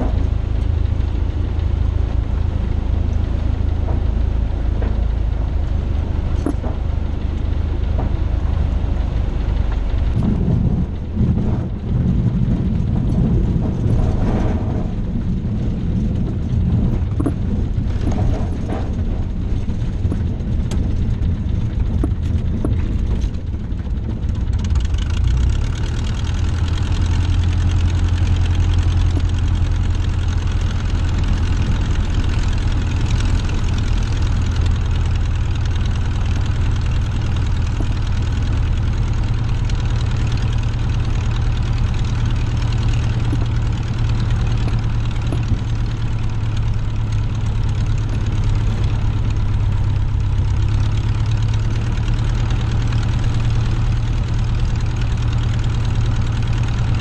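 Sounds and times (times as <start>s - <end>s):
knocks and rattles: 0.0s - 57.0s
piston aircraft engine: 0.0s - 57.0s.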